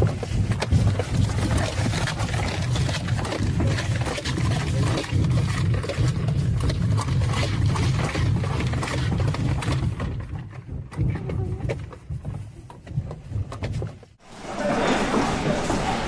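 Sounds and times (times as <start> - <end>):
building rumbling and rattling: 0.0 - 16.0.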